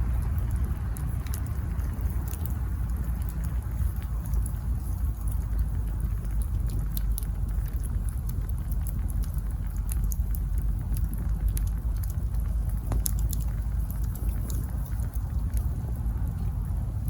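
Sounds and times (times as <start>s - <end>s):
sharp pops of burning wood: 0.0s - 16.9s
campfire crackling: 0.0s - 17.0s.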